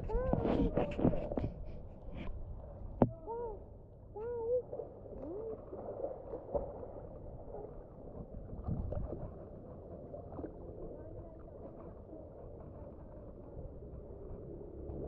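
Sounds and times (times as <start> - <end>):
muffled underwater swirl: 0.0 - 15.0.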